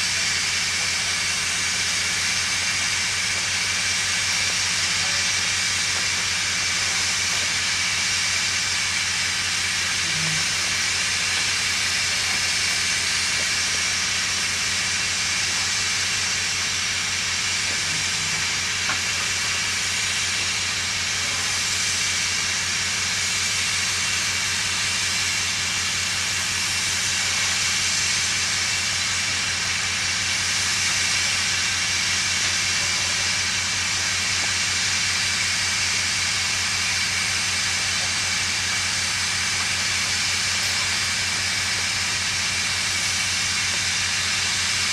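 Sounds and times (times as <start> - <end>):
steam locomotive hissing: 0.0 - 44.9.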